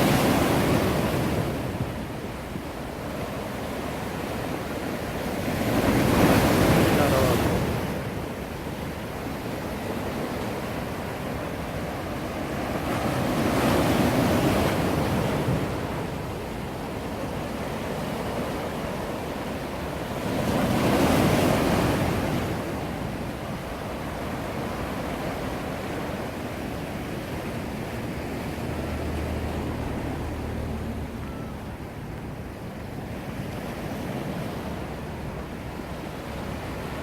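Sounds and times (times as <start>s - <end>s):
sea waves breaking: 0.0s - 37.0s.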